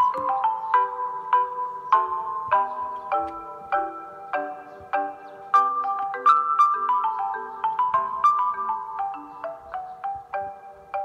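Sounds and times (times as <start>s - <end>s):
bell-like melody: 0.0s - 11.0s.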